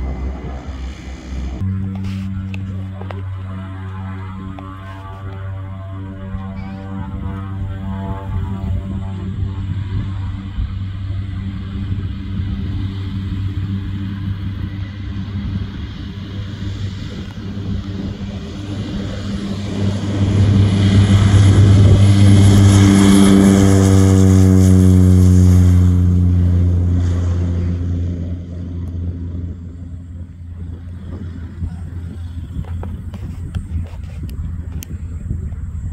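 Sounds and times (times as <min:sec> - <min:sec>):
high engine whine: 0:00.0 - 0:35.9
turboprop plane passing: 0:00.0 - 0:35.9.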